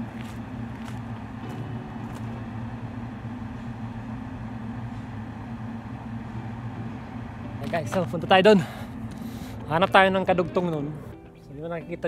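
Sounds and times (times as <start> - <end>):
ventilation fans humming: 0.0 - 12.0.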